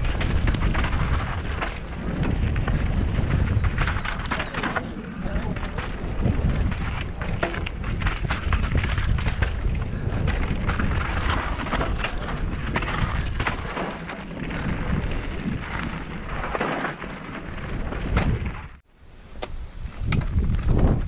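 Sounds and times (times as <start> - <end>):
wind buffeting microphone: 0.0 - 16.6, 19.5 - 21.0
bike clicks and rattles on stones: 0.0 - 21.0.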